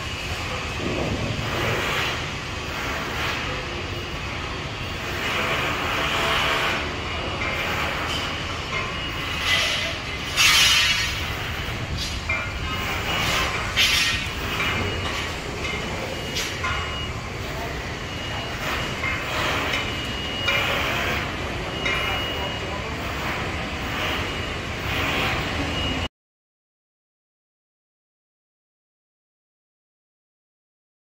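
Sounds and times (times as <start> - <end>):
machinery noise bursts: 0.0 - 26.1.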